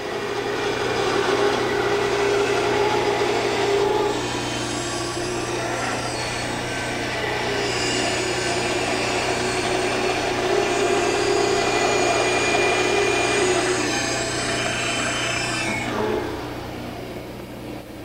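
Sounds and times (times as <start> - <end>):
bandsaw cutting wood: 0.0 - 16.9.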